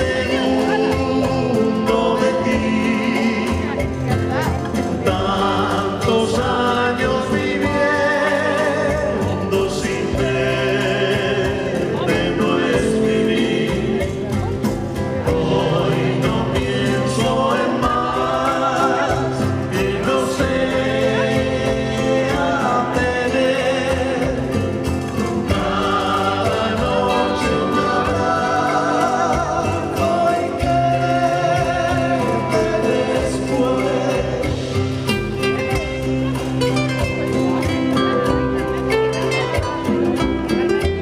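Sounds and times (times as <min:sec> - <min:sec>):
person singing: 0:00.0 - 0:40.0
acoustic guitars: 0:00.0 - 0:41.0
upright double bass: 0:00.0 - 0:41.0.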